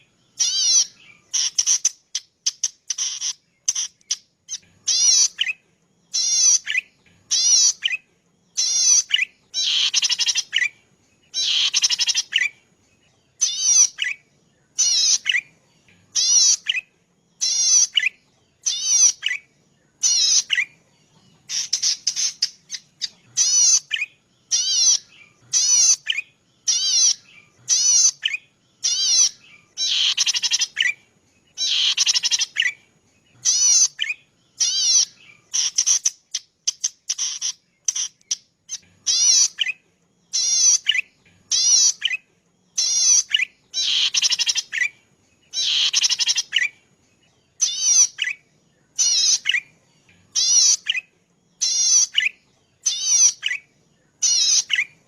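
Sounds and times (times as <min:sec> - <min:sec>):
small bird singing buzzy phrases: 0:00.0 - 0:55.0.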